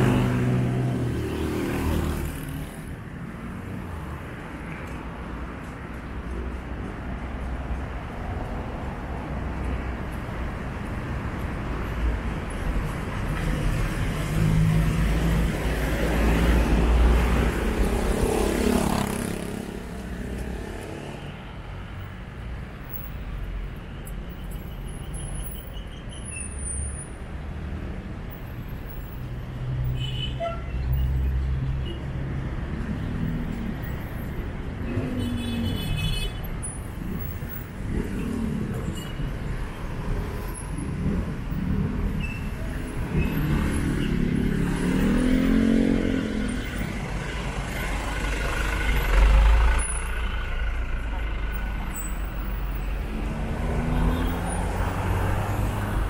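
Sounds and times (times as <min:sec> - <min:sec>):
vehicles passing on street: 0:00.0 - 0:56.0.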